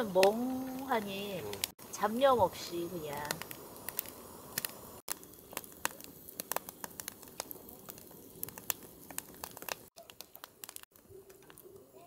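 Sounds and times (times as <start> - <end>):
campfire crackling: 0.0 - 12.0
faint steady hiss: 0.0 - 12.0.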